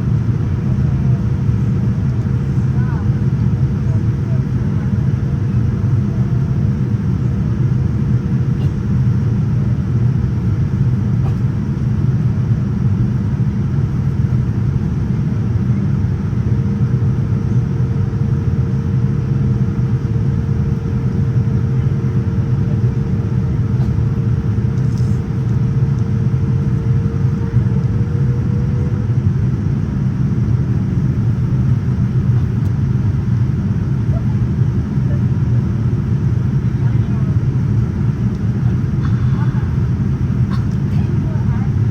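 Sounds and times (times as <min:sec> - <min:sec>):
airplane cabin rumble: 0:00.0 - 0:41.9.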